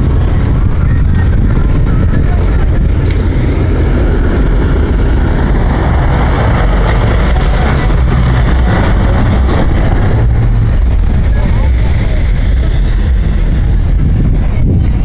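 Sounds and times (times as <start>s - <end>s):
car engines rumbling in traffic: 0.0s - 15.0s.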